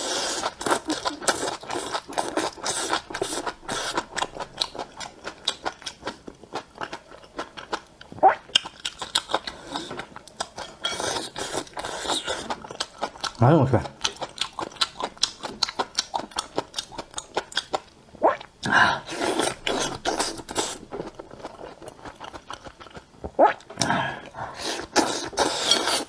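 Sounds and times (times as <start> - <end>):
chewing crunchy vegetables: 0.0 - 18.0, 19.0 - 26.0.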